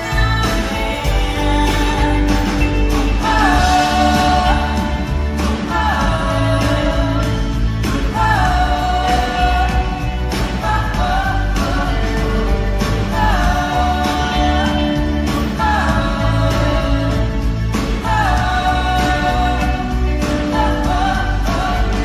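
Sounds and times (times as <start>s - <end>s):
person singing: 0.0s - 22.0s
pop-rock band playing live: 0.0s - 22.0s.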